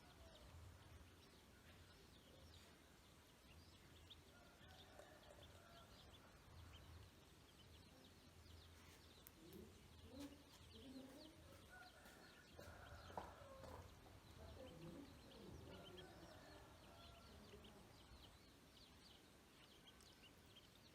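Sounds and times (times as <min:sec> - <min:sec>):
ducklings peeping: 0:00.0 - 0:20.9.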